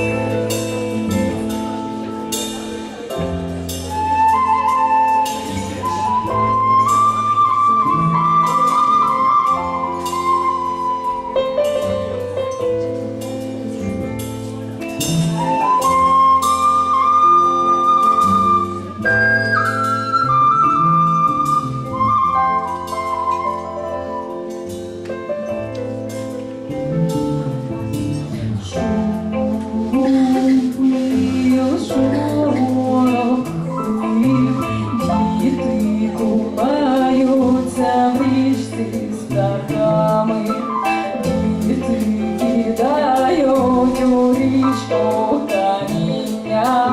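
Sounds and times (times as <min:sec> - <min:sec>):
flute melody: 0:00.0 - 0:46.9
live band playing instrumental: 0:00.0 - 0:46.9.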